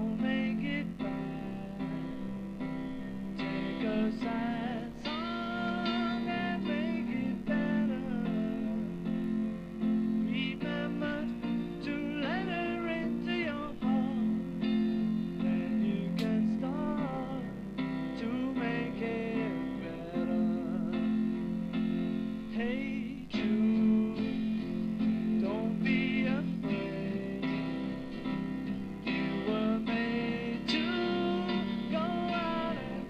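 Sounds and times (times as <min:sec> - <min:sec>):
guitar chords with wavering melody: 0:00.0 - 0:33.0.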